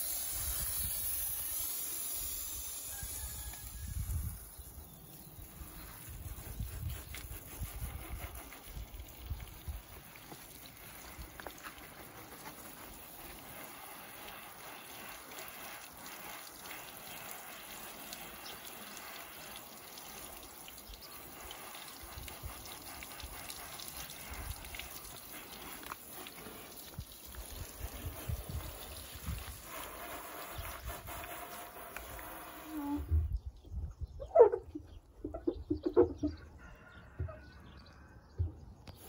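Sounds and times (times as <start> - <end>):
liquid spraying onto a car: 0.0 - 33.1.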